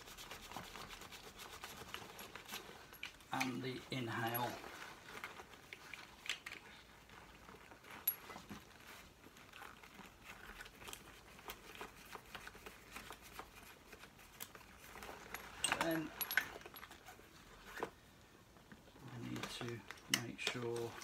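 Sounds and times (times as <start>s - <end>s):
rubber hoses rustling: 0.0s - 21.0s.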